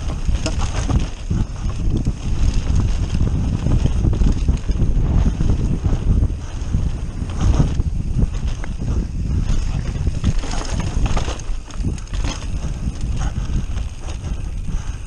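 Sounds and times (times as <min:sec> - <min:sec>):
bike knocks and rattles: 0:00.0 - 0:15.0
wind rumbling on microphone: 0:00.0 - 0:15.0.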